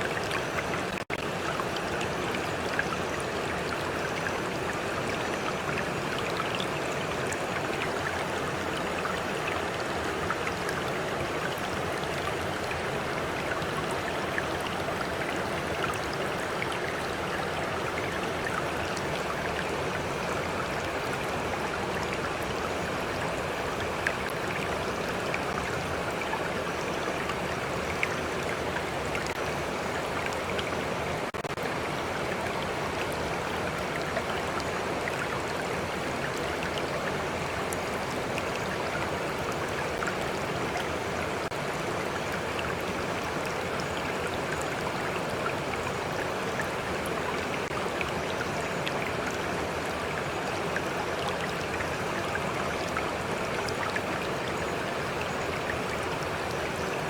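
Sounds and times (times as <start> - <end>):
stream rushing: 0.0 - 57.0
water splashes and drips: 0.0 - 57.0.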